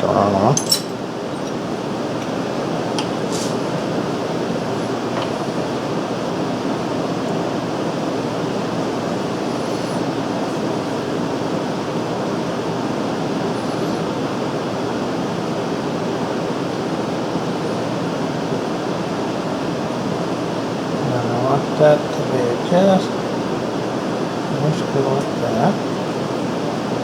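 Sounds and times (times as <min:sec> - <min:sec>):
metal lathe running: 0:00.0 - 0:27.0.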